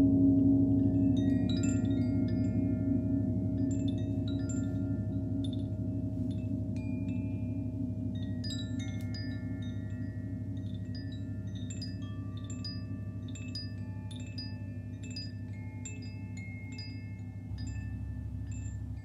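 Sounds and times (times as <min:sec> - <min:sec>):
bright chimes: 0:01.1 - 0:19.0.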